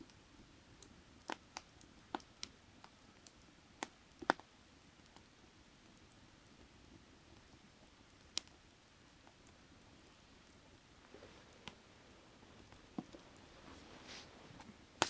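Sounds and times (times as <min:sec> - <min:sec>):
faint steady background noise: 0:00.0 - 0:15.0
firewood crackling and popping: 0:00.0 - 0:15.0.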